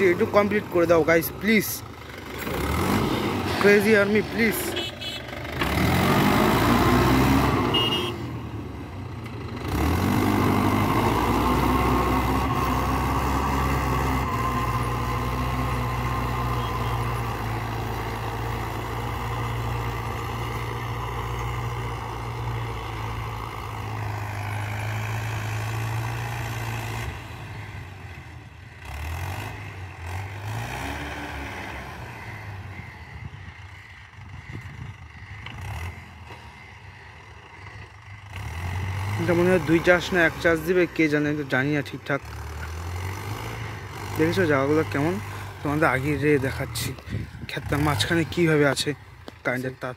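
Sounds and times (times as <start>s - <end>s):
rotavator tilling dry soil: 0.0s - 49.9s
tractor diesel engine under load: 0.0s - 49.9s.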